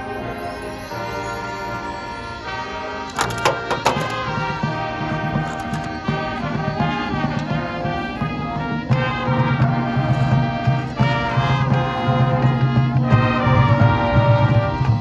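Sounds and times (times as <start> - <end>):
marching band brass playing: 0.0 - 15.0.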